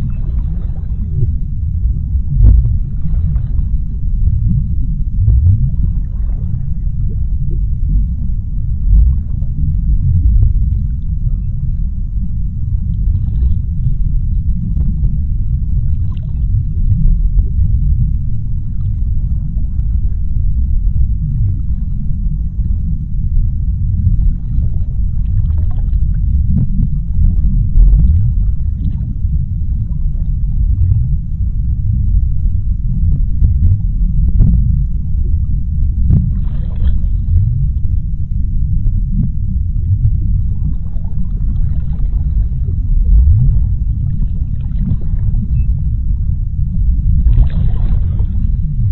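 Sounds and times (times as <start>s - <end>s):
faint scattered crackles: 0.0s - 48.9s
low underwater rumble: 0.0s - 48.9s.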